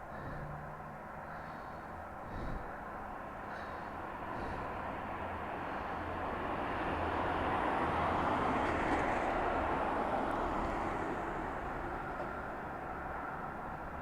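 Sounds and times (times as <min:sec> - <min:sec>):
vehicle passing by: 0:00.1 - 0:14.0.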